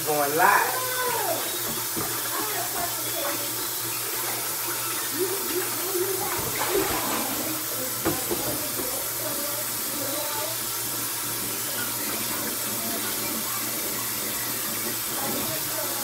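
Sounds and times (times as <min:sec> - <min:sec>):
faucet running into sink: 0:00.0 - 0:16.0.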